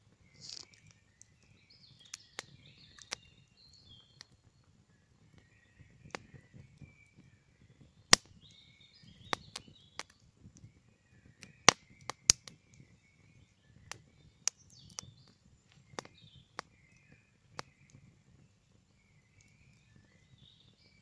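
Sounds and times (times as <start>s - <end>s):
birds singing faintly: 0.0s - 21.0s
campfire crackling and popping: 0.0s - 21.0s.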